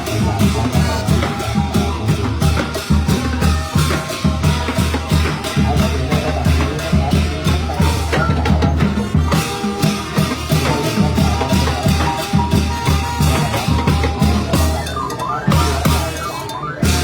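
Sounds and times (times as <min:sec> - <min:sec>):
driving drum beat: 0:00.0 - 0:17.0
held horn notes: 0:00.0 - 0:17.0.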